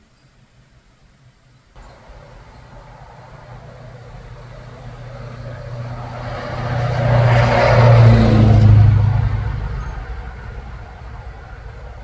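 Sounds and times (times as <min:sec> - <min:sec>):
vehicle driving past: 0:01.8 - 0:12.0.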